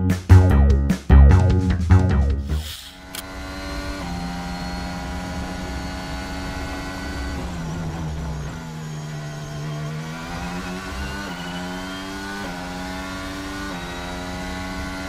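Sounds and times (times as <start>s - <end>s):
racing car engine running: 1.2s - 15.0s.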